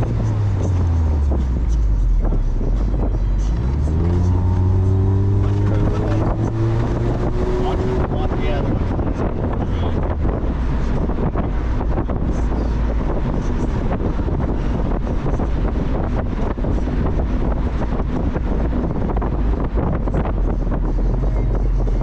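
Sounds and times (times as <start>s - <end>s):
moving car rumble: 0.0s - 22.0s
wind buffeting microphone: 4.0s - 22.0s.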